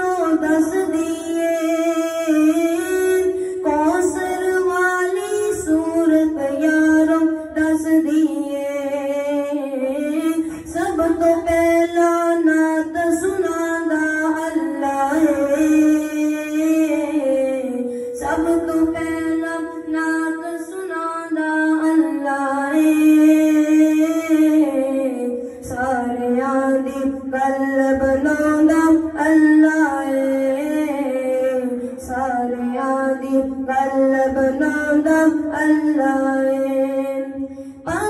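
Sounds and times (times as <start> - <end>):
boy singing unaccompanied: 0.0 - 38.0.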